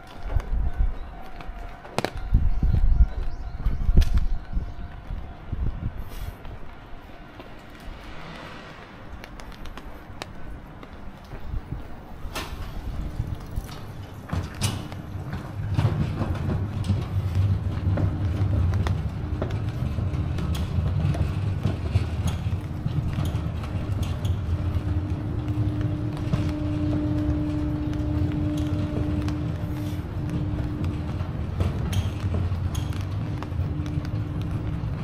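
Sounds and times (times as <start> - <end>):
train rumbling by: 0.0 - 35.0.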